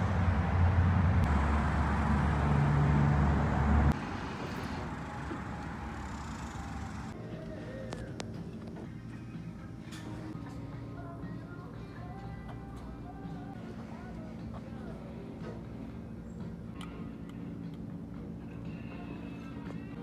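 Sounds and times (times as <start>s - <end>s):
indoor store ambience: 0.6s - 20.0s.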